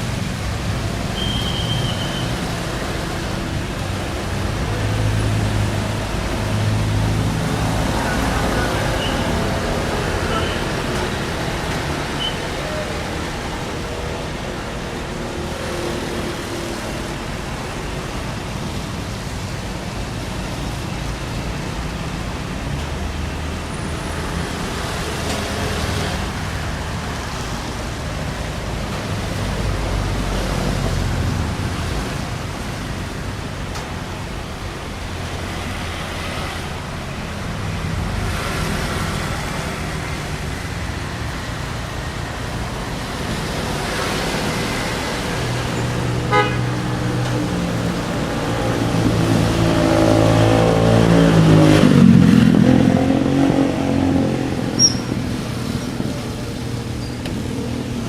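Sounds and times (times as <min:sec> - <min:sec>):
vehicles passing: 0:00.0 - 0:58.0.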